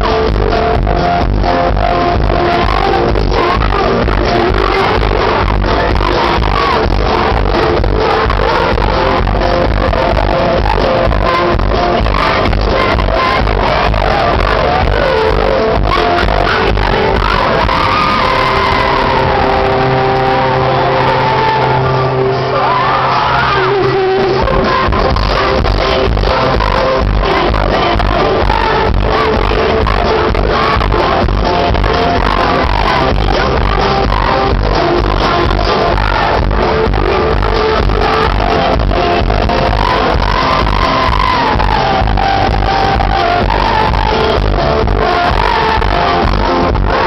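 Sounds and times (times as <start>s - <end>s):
heavy bass beat: 0.0s - 22.4s, 23.8s - 47.0s
live dance-pop band playing: 0.0s - 47.0s
person singing: 0.0s - 47.0s
fans shouting: 1.5s - 47.0s.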